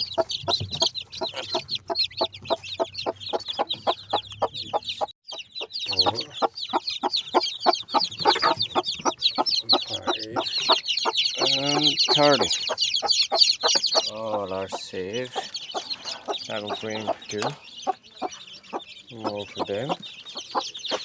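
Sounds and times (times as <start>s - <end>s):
chicks peeping: 0.0s - 21.0s
hen clucking: 0.0s - 21.0s.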